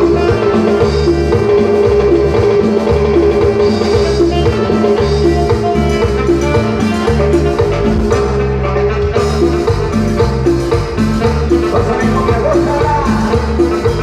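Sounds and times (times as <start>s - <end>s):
bass line: 0.0s - 14.0s
drum kit and percussion: 0.0s - 14.0s
latin band music: 0.0s - 14.0s.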